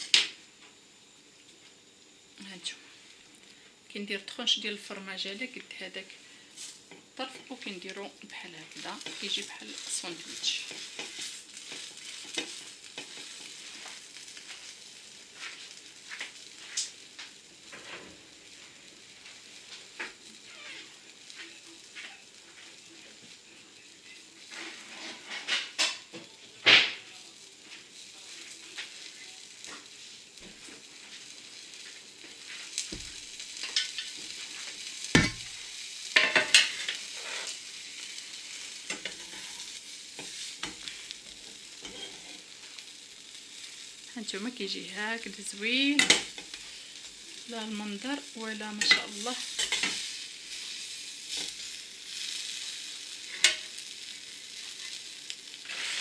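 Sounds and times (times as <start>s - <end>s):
sandwich sizzling in a pan: 0.0s - 56.0s.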